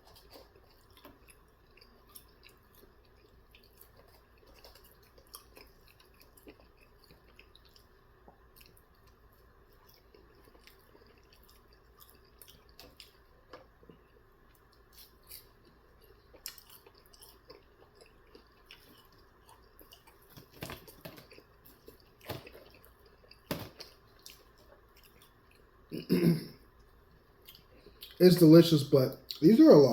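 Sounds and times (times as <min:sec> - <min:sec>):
person chewing wetly: 0:00.0 - 0:26.0, 0:26.7 - 0:28.2.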